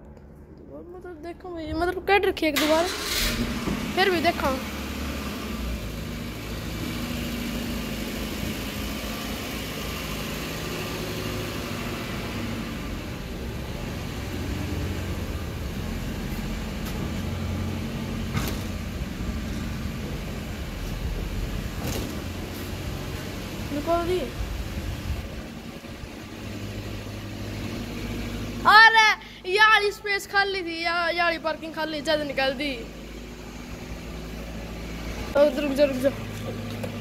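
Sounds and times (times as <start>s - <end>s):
van engine running at low revs: 2.8s - 37.0s.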